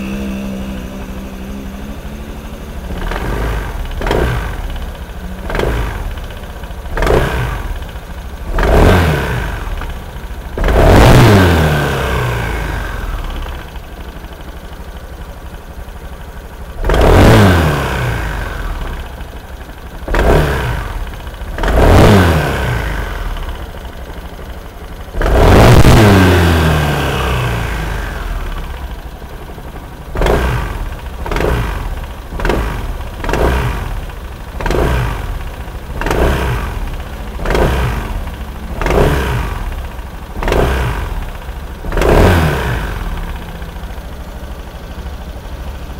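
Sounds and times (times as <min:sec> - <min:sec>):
engine throttle blips: 0:00.0 - 0:15.9, 0:16.6 - 0:45.9.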